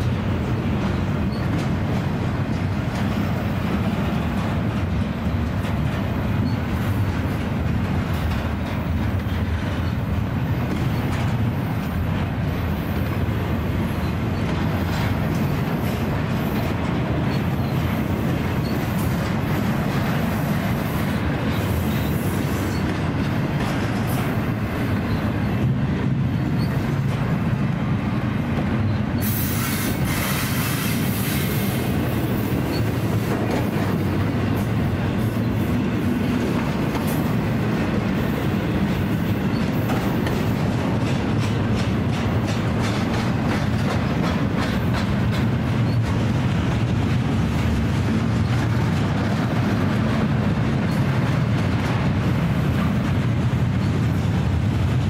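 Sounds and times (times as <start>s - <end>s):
clicking over rail joints: 0.0s - 55.0s
train wheels rumbling on rail: 0.0s - 55.0s.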